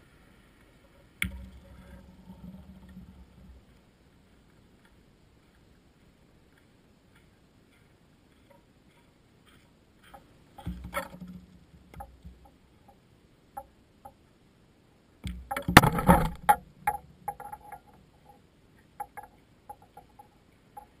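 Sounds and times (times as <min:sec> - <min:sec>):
small scattered ticks: 0:00.0 - 0:14.3, 0:15.2 - 0:21.0.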